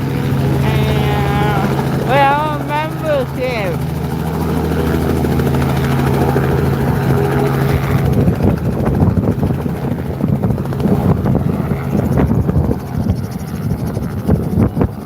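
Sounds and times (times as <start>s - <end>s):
helicopter rotor chopping: 0.0s - 15.0s.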